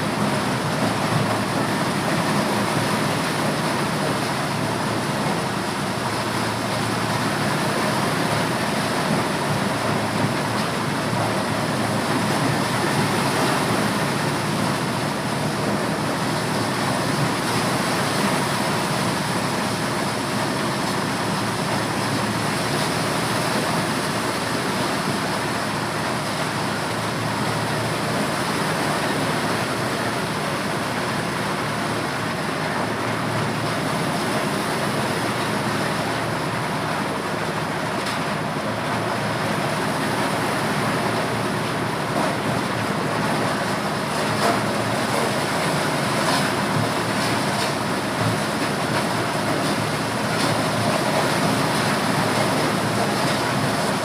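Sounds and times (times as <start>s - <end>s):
corn sheller machine running: 0.0s - 54.0s.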